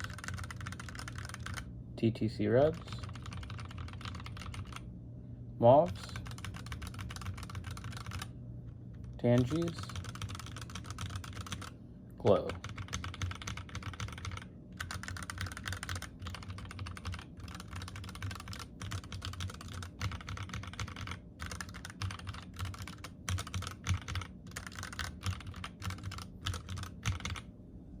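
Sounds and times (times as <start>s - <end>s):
fast mechanical keyboard typing: 0.0s - 1.7s, 2.6s - 4.9s, 5.8s - 8.3s, 9.0s - 11.7s, 12.3s - 27.5s.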